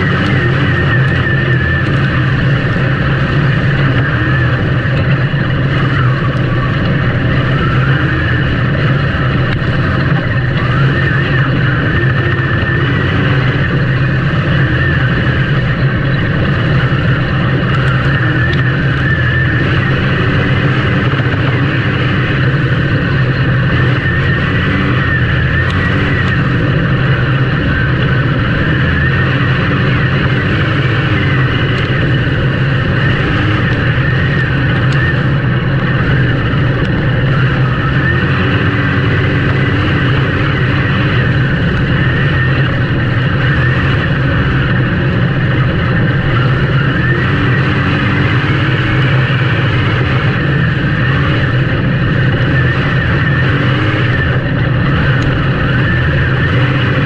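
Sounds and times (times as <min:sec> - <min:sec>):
race engines revving: 0:00.0 - 0:57.0.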